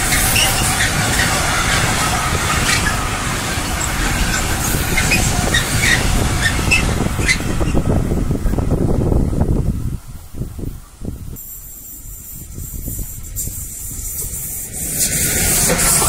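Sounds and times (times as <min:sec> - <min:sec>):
train wheels clattering and squealing: 0:00.0 - 0:08.6, 0:11.5 - 0:16.0.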